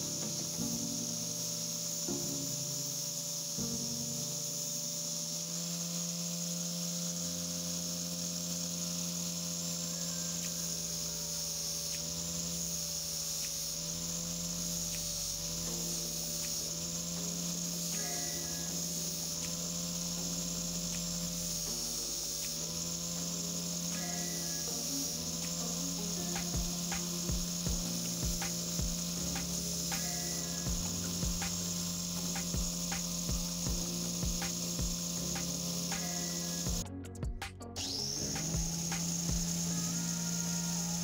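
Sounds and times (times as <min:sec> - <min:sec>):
angle grinder grinding steel: 0:00.0 - 0:36.8, 0:37.5 - 0:41.0.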